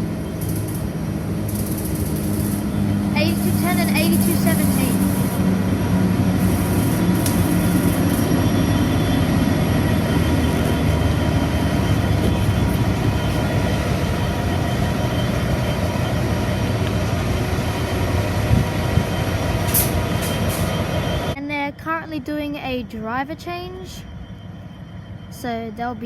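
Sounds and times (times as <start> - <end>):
locomotive engines idling: 0.0 - 26.0.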